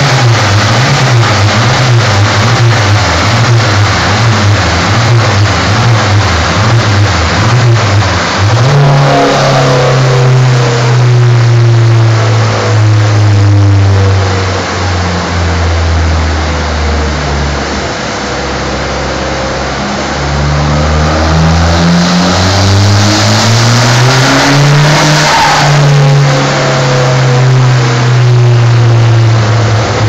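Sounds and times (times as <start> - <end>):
steady rushing noise: 0.0 - 30.0
turbocharged engine under load: 0.0 - 30.0.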